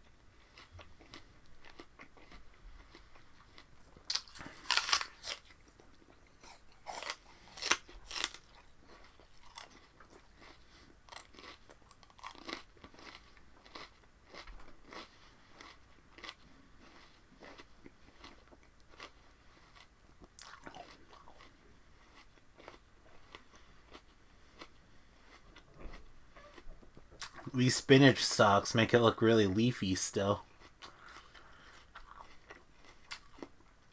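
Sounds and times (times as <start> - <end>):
crunchy chewing: 0.1 - 27.6, 30.3 - 33.7.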